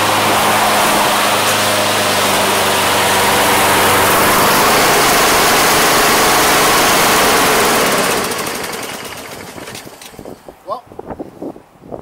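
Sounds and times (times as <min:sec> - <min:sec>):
lawnmower engine running: 0:00.0 - 0:10.4.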